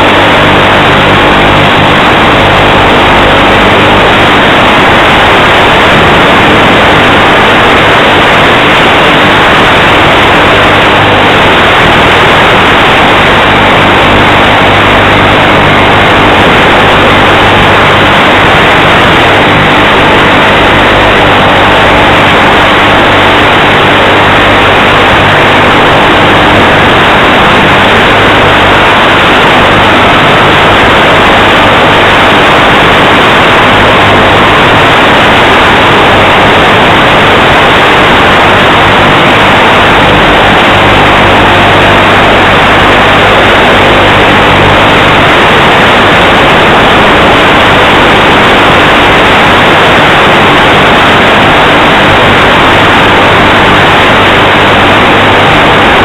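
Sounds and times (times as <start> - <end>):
model plane motor drone: 0.0 - 56.0
wind and static hiss: 0.0 - 56.0.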